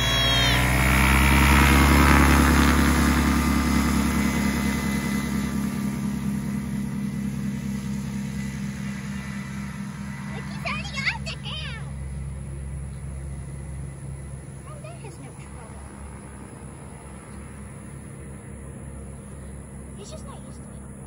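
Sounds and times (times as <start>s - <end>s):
light aircraft engine and propeller: 0.0s - 21.0s.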